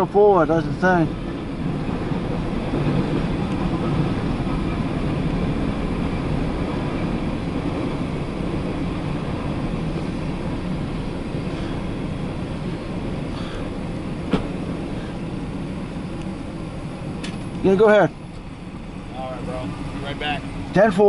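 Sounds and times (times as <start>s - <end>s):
train cars rolling on rails: 0.0s - 21.0s.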